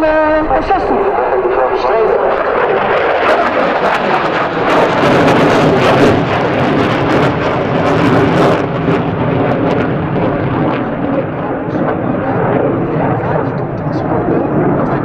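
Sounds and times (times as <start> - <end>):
fighter jet passing: 0.0 - 15.0
sharp ragged jet crackle: 0.0 - 15.0.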